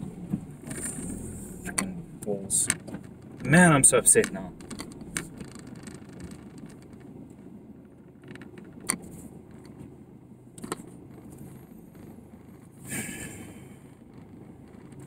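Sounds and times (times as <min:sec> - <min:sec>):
sharp clicks and rattles: 0:00.0 - 0:09.9, 0:10.5 - 0:15.0
engine and road rumble: 0:00.0 - 0:15.0.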